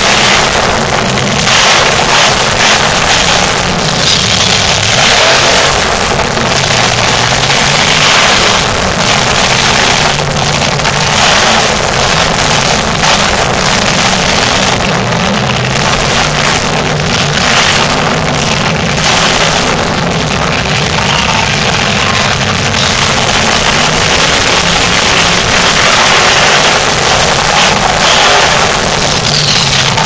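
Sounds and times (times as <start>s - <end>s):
monster truck engine running: 0.0s - 30.0s.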